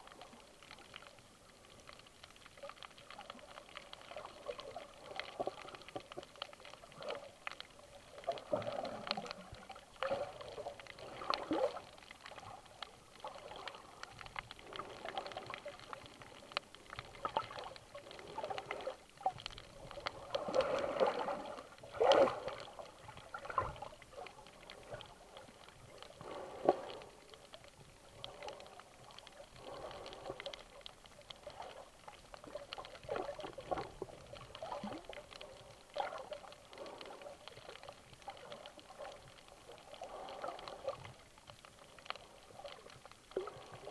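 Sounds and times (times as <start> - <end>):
underwater water sloshing and gurgling: 0.0 - 43.9.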